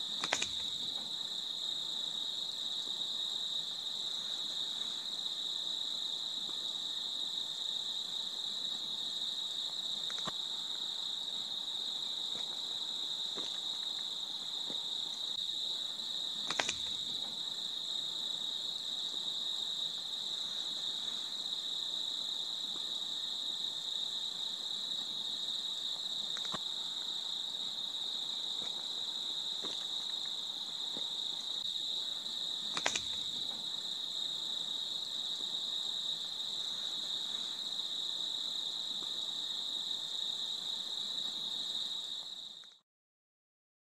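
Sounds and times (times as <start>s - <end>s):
crickets trilling: 0.0s - 42.8s.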